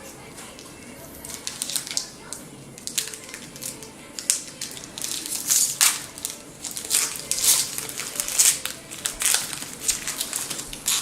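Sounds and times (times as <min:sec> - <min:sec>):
foil wrapper crinkling: 0:00.4 - 0:11.0.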